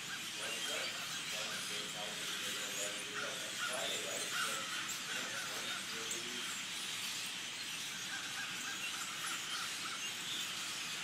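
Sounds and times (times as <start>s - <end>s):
flock of birds chirping: 0.0s - 11.0s
lower-pitched bird calls: 0.0s - 11.0s.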